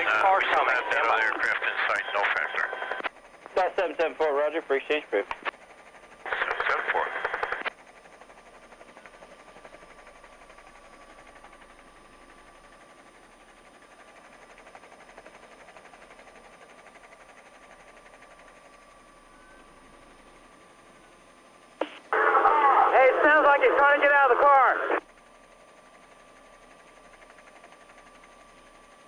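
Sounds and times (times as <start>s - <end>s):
thin steady whine: 0.0s - 12.9s, 15.2s - 29.0s.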